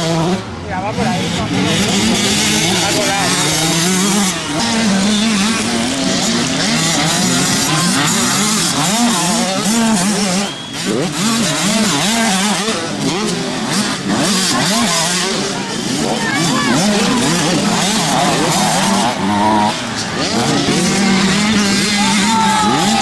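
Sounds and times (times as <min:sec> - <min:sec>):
motocross bike engines revving: 0:00.0 - 0:23.0.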